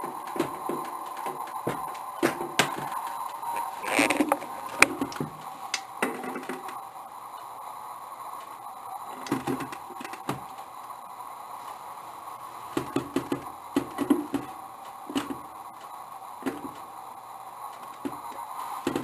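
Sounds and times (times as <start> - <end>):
recorder noise hum: 0.0 - 19.0.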